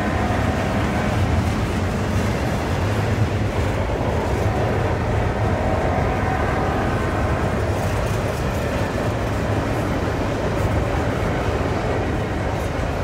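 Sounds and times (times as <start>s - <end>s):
freight train rolling past: 0.0s - 13.0s
steel wheels on rails: 0.0s - 13.0s.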